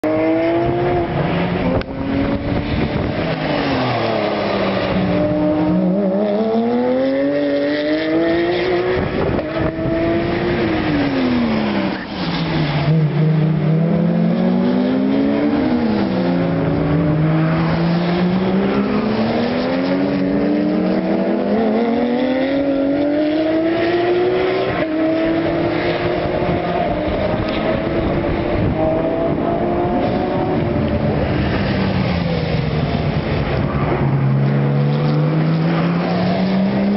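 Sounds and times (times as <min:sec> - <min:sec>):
race car engines shifting gears: 0:00.0 - 0:36.9.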